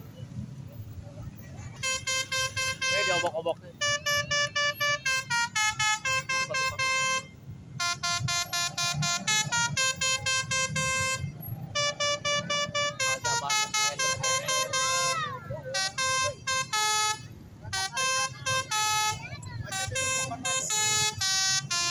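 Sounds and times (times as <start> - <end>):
multi-note bus horn melody: 1.6 - 21.9.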